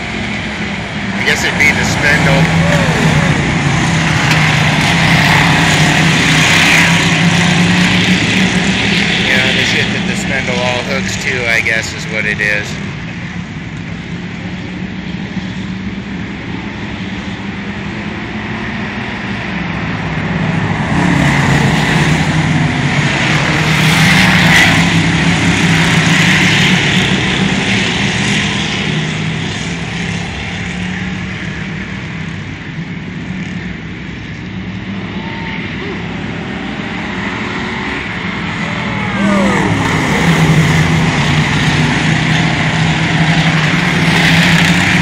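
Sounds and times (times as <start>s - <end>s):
race car engines: 0.0s - 45.0s.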